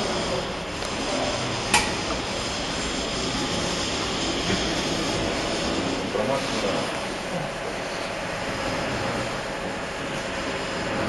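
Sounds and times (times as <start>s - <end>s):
steady mechanical drone: 0.0s - 11.0s.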